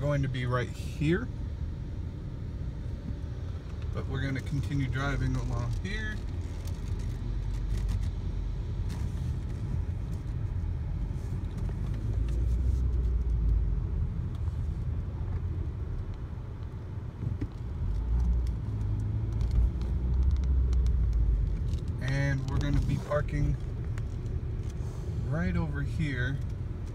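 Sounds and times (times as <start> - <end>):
car engine and tyres rumbling: 0.0 - 26.9.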